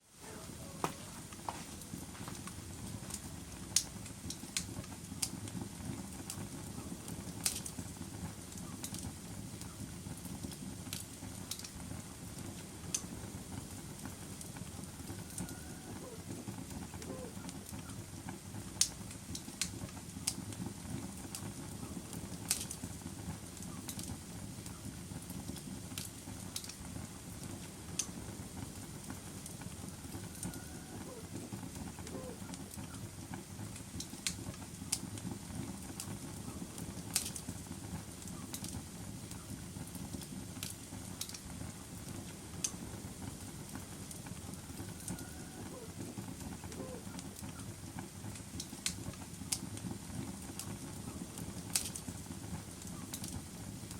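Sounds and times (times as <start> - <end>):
fire flames rustling: 0.0 - 53.9
fire pops and snaps: 0.8 - 53.9.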